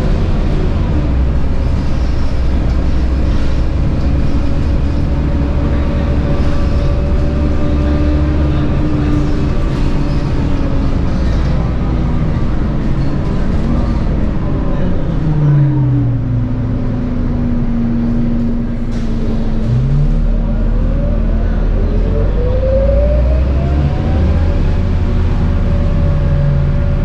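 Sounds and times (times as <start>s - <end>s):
bus engine rumble: 0.0s - 27.0s.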